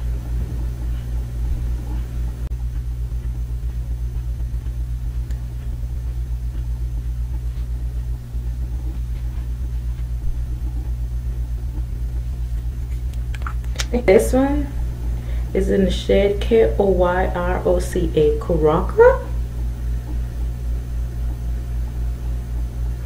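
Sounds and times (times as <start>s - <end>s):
low hum with rumble: 0.0s - 23.0s.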